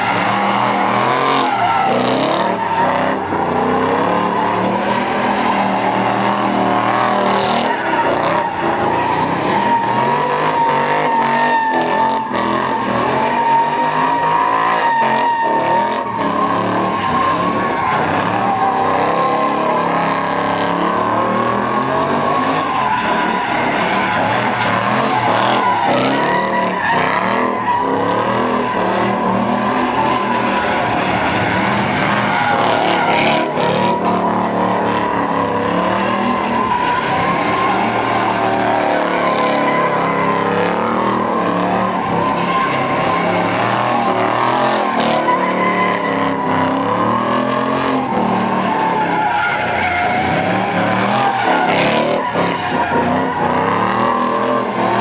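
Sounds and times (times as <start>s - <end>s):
car engine revving: 0.0s - 55.0s
tire squeal: 0.0s - 55.0s.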